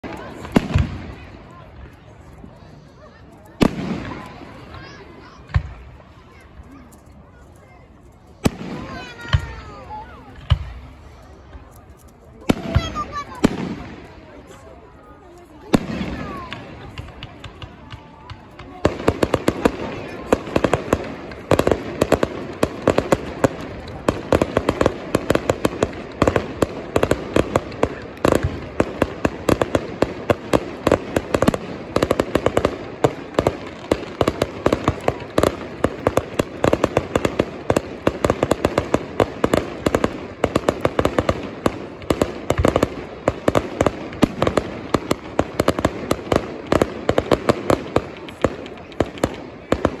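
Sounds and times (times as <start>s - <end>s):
fireworks cracking and popping: 0.0s - 50.0s
fireworks crackling: 0.0s - 50.0s.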